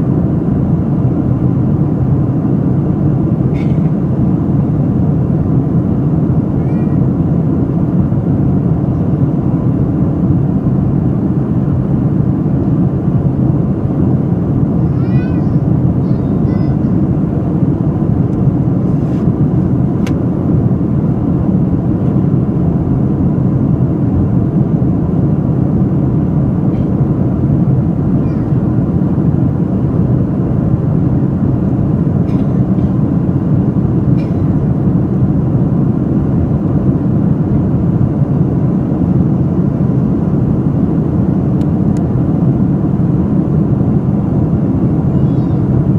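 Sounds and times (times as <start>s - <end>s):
airliner cabin roar: 0.0s - 45.9s.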